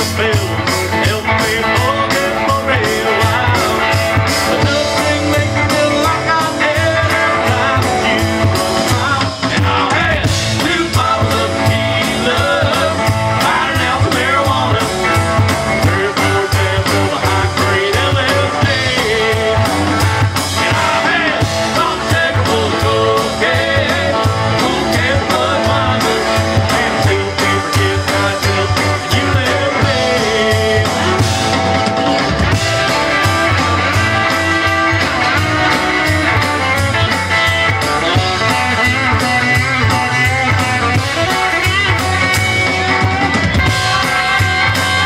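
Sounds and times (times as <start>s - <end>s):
drum kit: 0.0s - 45.0s
electric and acoustic guitars: 0.0s - 45.0s.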